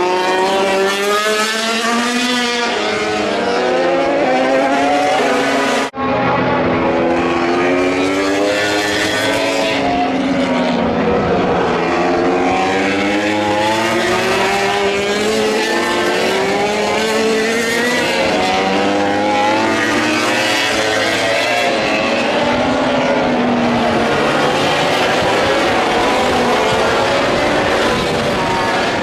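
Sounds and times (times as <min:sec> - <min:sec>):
racing motorcycle engines revving: 0:00.0 - 0:29.0.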